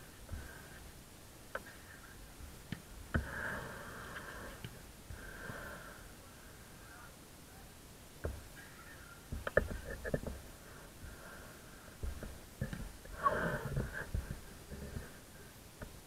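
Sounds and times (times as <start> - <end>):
faint distant voices: 0.0 - 16.0.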